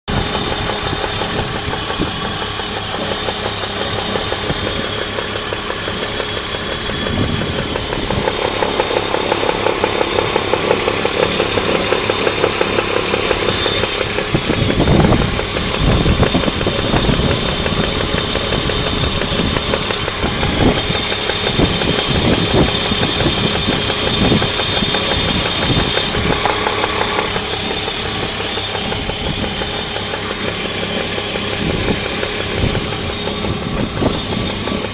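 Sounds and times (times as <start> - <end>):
engine running with rhythmic knock: 0.0 - 34.9.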